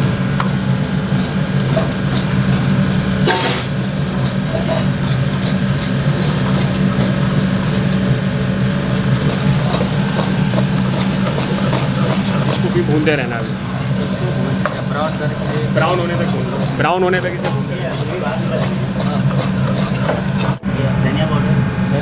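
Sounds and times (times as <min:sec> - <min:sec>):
ladle scraping metal pan: 0:00.0 - 0:20.6
low mechanical hum: 0:00.0 - 0:22.0.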